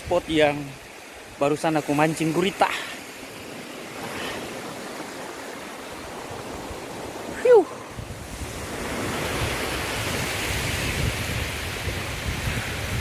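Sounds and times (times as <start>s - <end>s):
surf washing on rocky shore: 0.0s - 13.0s
wind buffeting microphone: 2.2s - 13.0s.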